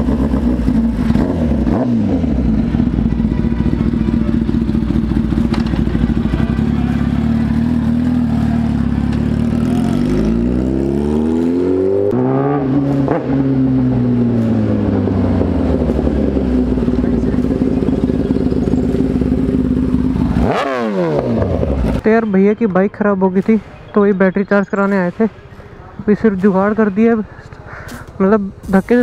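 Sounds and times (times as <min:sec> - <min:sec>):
motorcycle engine revving: 0:00.0 - 0:24.4.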